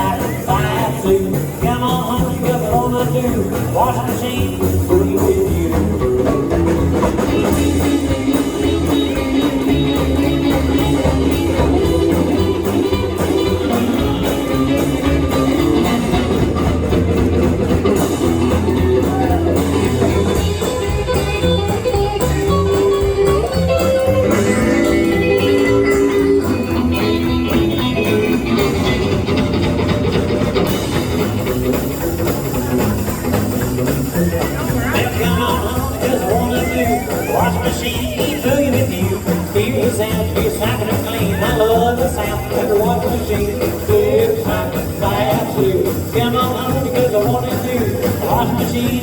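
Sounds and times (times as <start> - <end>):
lead guitar: 0.0 - 49.0
live boogie band playing: 0.0 - 49.0.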